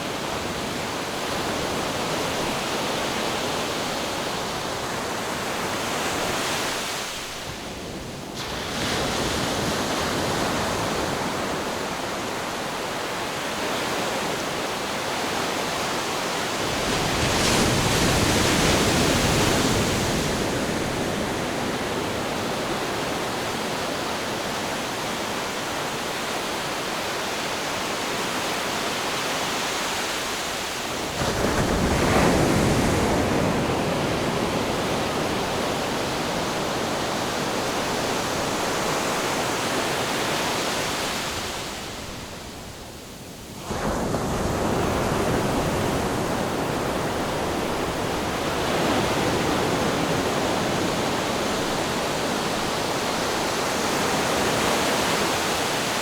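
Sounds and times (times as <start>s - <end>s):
ocean waves breaking: 8.4s - 42.7s, 43.6s - 56.0s.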